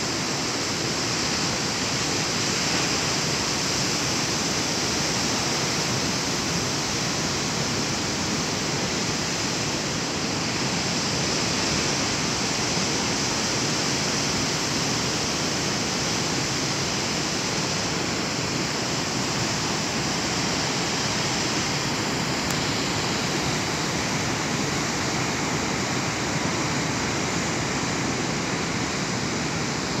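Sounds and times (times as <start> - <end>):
ocean surf rushing: 4.8 - 30.0.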